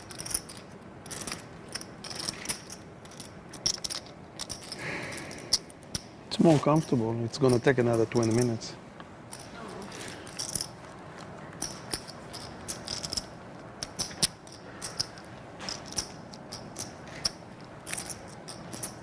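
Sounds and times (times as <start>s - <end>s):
clay poker chips clicking: 0.0s - 6.2s, 6.8s - 8.6s, 9.3s - 19.0s.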